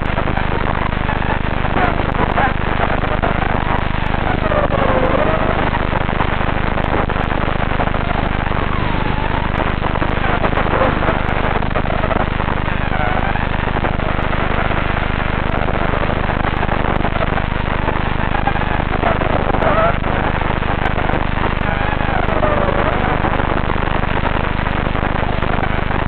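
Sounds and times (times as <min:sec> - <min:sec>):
heavy rushing noise: 0:00.0 - 0:26.0.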